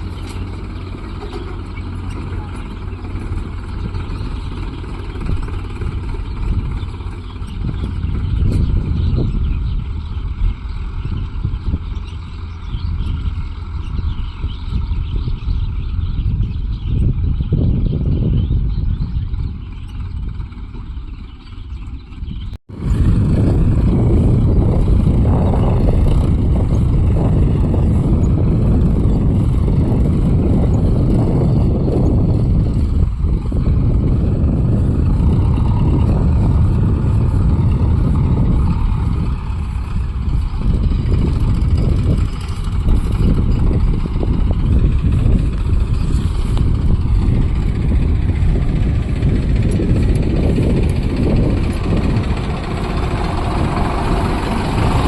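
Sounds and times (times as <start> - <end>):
tractor engine rumbling: 0.0 - 55.0.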